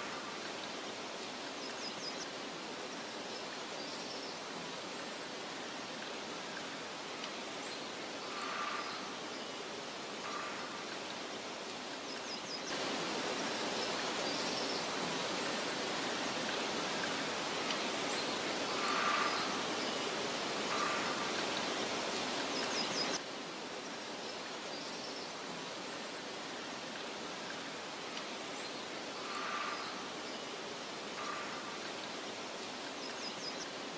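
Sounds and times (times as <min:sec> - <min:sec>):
soft wind hiss: 0:00.0 - 0:33.9.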